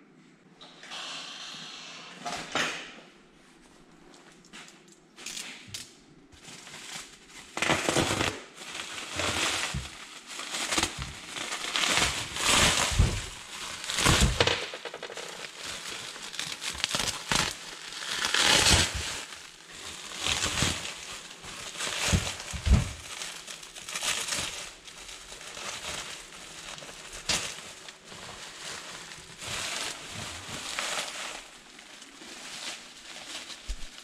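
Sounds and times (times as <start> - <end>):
bubble wrap and plastic crinkling: 6.3 - 34.0.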